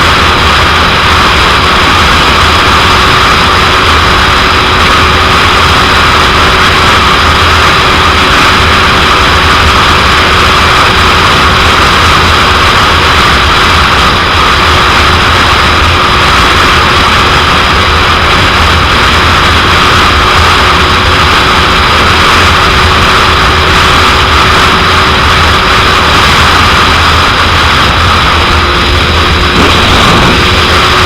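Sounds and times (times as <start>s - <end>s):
faint motorcycle engine: 0.0s - 31.0s
wind buffeting microphone: 0.0s - 31.0s.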